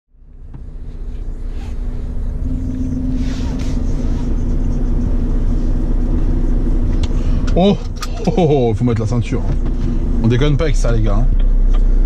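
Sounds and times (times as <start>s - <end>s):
truck diesel engine idling: 0.7s - 12.0s.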